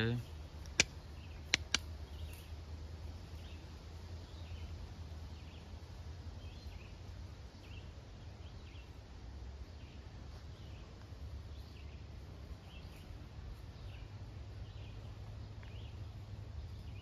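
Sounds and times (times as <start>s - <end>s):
small bird chirping: 0.0s - 17.0s
steady low rumble: 0.0s - 17.0s.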